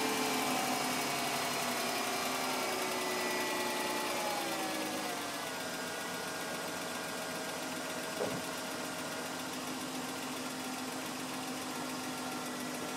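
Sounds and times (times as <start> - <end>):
car engine idling: 0.0 - 12.9
engine knock: 1.8 - 12.9.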